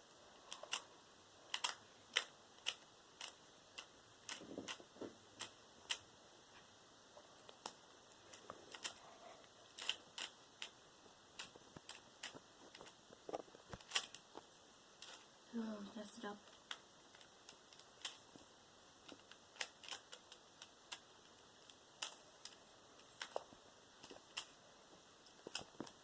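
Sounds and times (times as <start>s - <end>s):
puzzle cube layers clicking: 0.4s - 0.9s, 1.5s - 6.1s, 7.5s - 15.4s, 16.4s - 24.6s.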